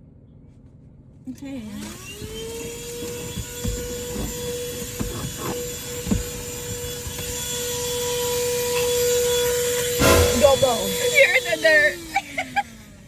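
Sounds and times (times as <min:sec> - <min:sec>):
vacuum cleaner running: 0:01.6 - 0:13.0.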